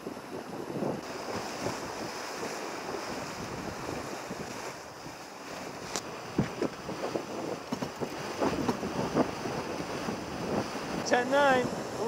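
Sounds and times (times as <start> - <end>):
water rushing along hull: 0.0 - 12.0
wind buffeting microphone: 0.0 - 12.0.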